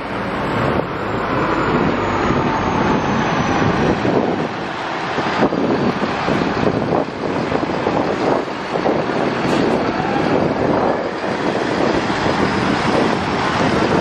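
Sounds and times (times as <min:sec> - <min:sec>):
bus engine driving past: 0:00.0 - 0:14.0.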